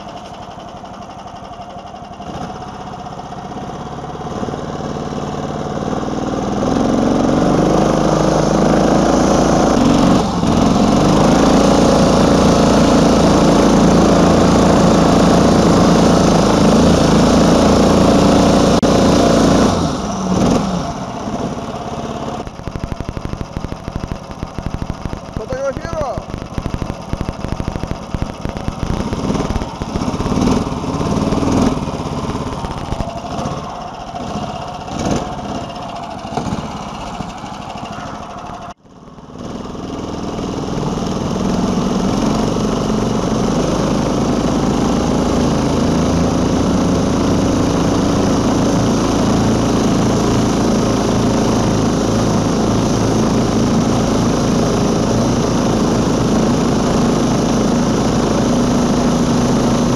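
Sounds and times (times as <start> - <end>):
small snowmobile engine running: 0.0 - 59.9.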